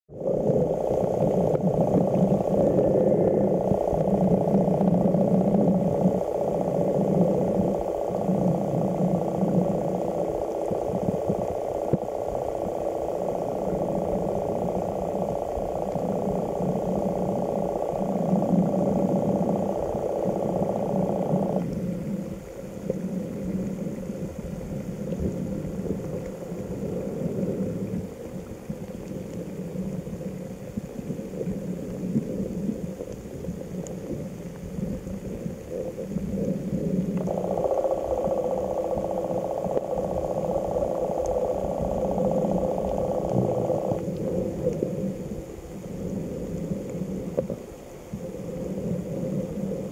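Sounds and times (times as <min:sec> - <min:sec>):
low hum: 0:00.1 - 0:49.9
muffled underwater rumble: 0:00.1 - 0:49.9.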